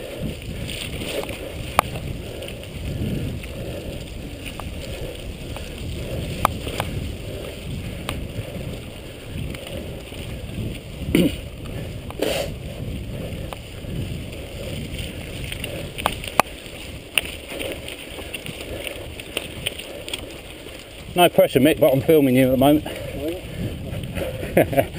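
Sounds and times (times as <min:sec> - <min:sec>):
bike clicks and rattles: 0:00.0 - 0:24.9
tyres rumbling on dirt trail: 0:00.0 - 0:24.9.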